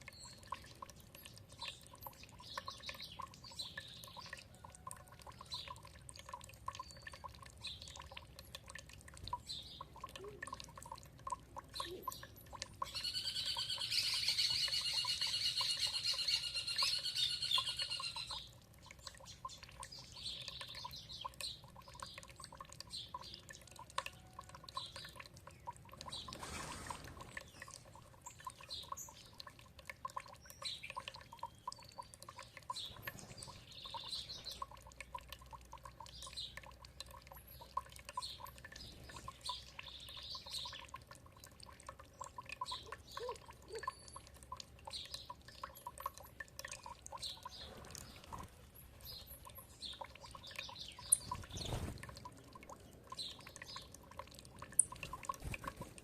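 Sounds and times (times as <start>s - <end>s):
songbirds chirping: 0.0s - 56.0s
water trickling: 0.0s - 56.0s.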